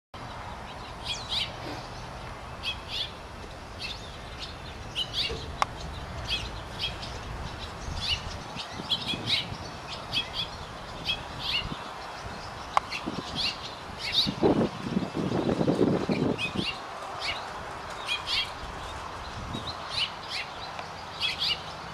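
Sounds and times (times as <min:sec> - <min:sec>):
birds chirping: 0:00.2 - 0:21.9.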